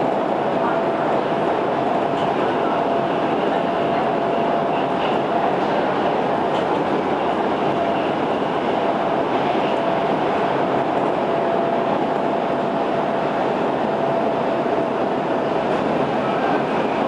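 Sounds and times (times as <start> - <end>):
subway car wheels rumbling: 0.0 - 17.0.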